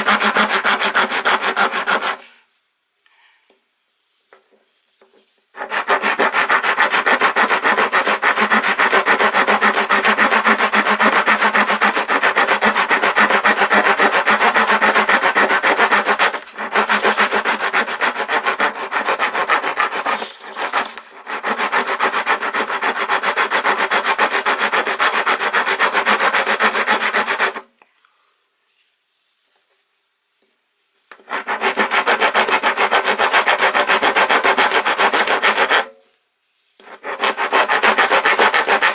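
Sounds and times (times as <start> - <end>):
rasp scraping wood: 0.0 - 2.3, 5.6 - 27.7, 31.1 - 36.0, 36.8 - 38.9.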